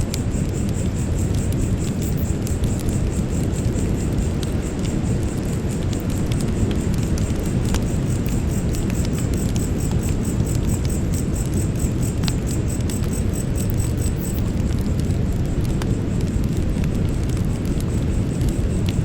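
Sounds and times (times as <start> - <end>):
campfire crackling and popping: 0.0 - 19.0
insects chirping: 0.0 - 19.0.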